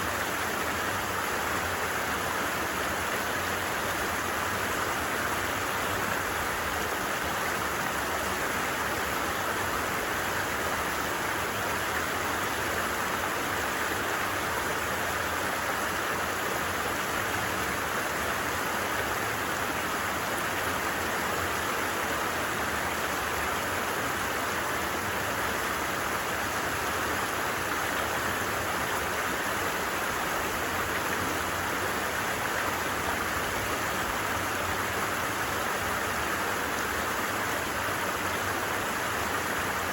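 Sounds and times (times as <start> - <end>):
flowing stream: 0.0 - 39.9.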